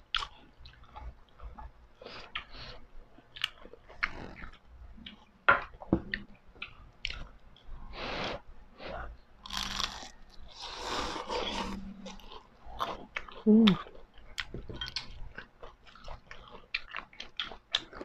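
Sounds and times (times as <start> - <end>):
chewing with crisp crunches: 0.0 - 7.7, 9.4 - 18.0.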